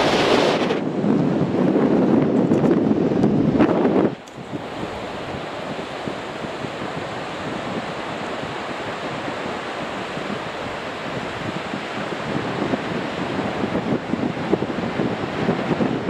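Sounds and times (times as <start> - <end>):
wind blowing on microphone: 0.0 - 16.0.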